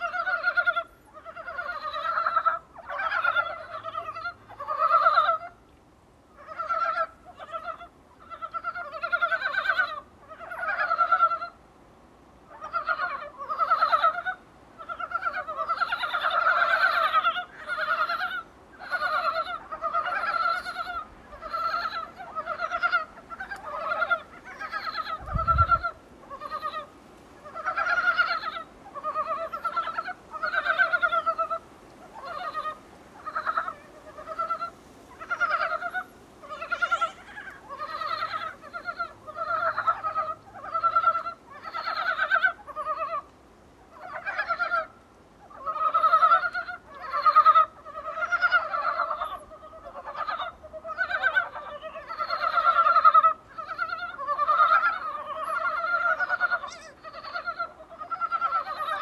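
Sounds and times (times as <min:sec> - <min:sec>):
frogs croaking: 0:00.0 - 0:59.0.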